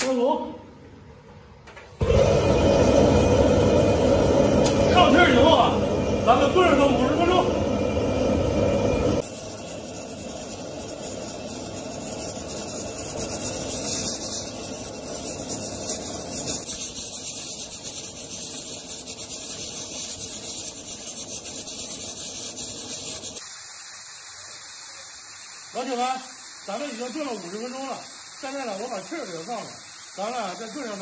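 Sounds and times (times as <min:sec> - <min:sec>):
pressure cooker hissing steam: 0:02.0 - 0:31.0.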